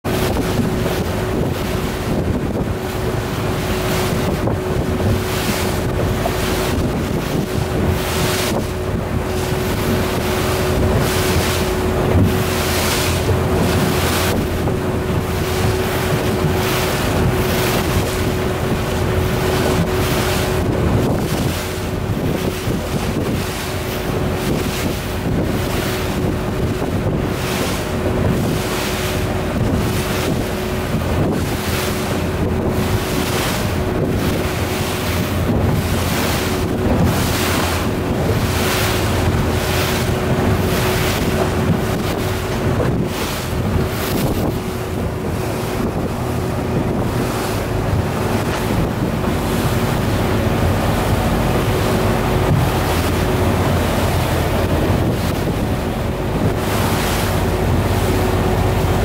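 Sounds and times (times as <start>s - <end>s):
steady motor hum: 0.0s - 59.0s
water splashing around boat: 0.0s - 59.0s
wind buffeting microphone: 0.0s - 59.0s.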